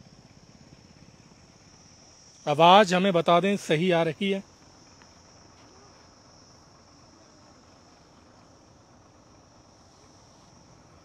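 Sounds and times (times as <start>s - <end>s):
insects chirring: 0.0s - 11.0s
low background hiss: 0.0s - 11.0s.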